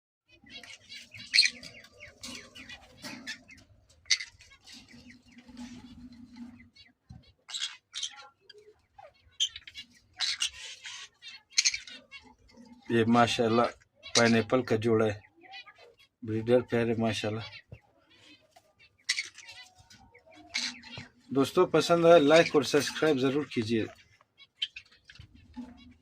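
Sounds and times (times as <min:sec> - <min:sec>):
parrots chirping and squawking: 0:00.3 - 0:26.0.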